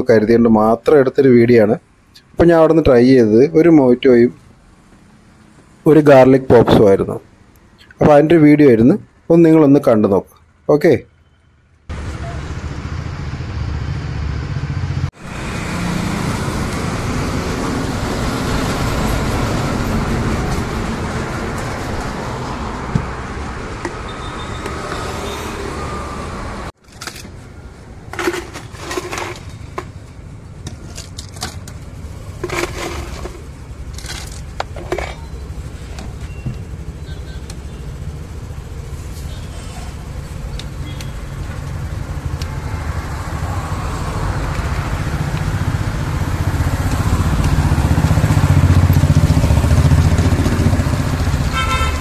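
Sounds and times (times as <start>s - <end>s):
steady rushing traffic noise: 0.0s - 52.0s.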